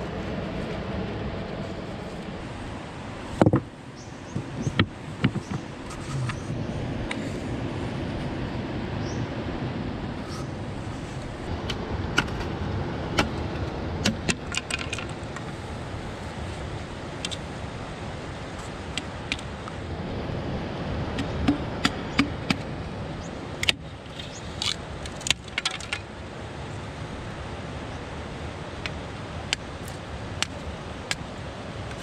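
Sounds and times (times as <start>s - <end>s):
fast river rushing: 4.9s - 32.0s.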